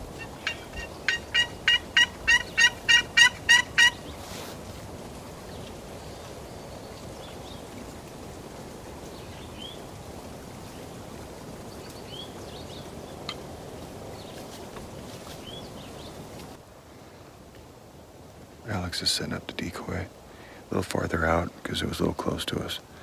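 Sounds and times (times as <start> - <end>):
outdoor ambience hiss: 0.0 - 23.0.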